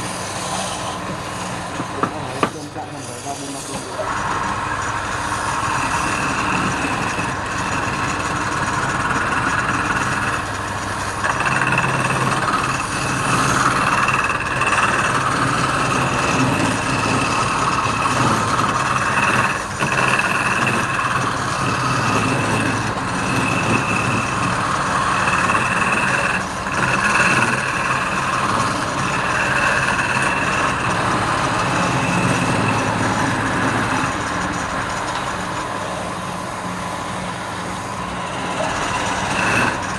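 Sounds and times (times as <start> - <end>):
turning tool cutting wood: 0.0 - 39.9
wood lathe running: 0.0 - 39.9.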